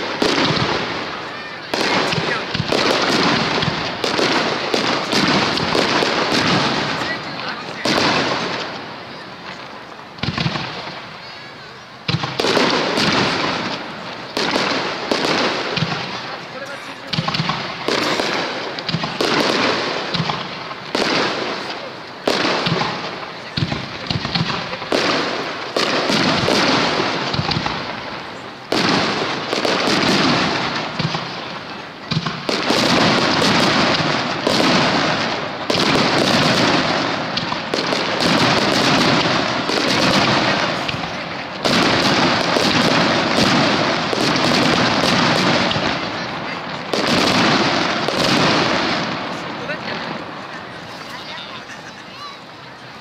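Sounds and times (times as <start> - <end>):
fireworks booming and crackling: 0.0 - 53.0.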